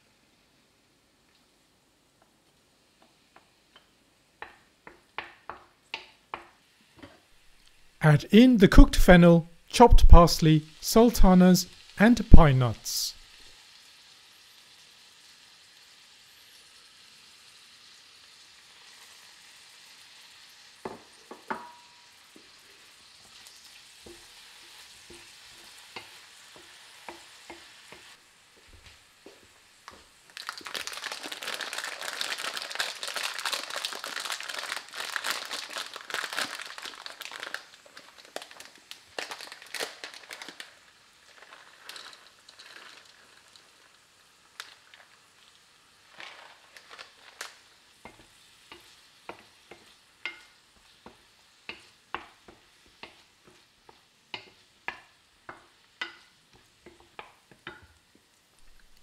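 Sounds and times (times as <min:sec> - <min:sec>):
vegetables frying in oil: 0:00.0 - 0:08.0, 0:09.9 - 0:59.0.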